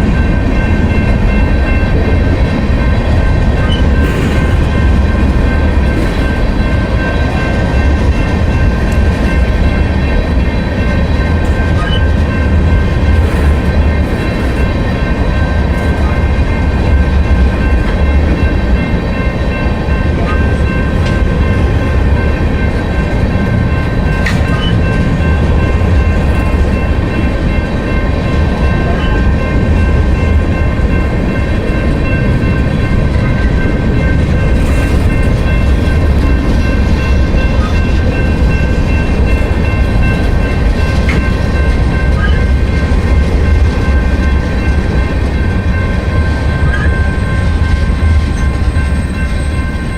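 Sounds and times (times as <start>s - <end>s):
train cars rumbling on rails: 0.0s - 49.9s.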